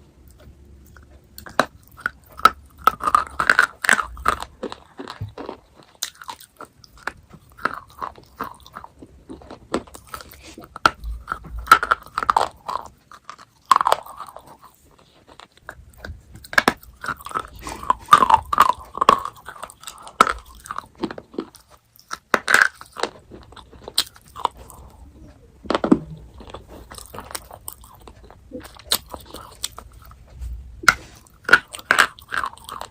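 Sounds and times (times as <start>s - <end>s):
chocolate crunching and chewing: 0.0s - 32.9s.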